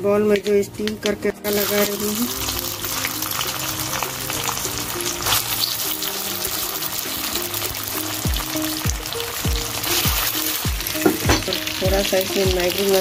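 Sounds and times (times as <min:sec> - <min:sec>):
background music: 0:00.0 - 0:13.0
rice balls sizzling in hot oil: 0:01.4 - 0:13.0.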